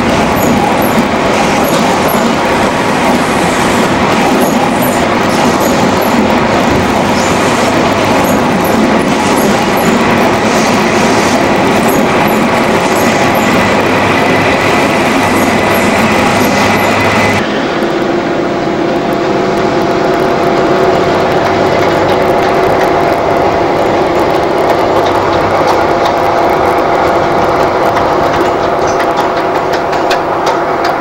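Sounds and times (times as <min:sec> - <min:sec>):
train rumbling past: 0:00.0 - 0:31.0.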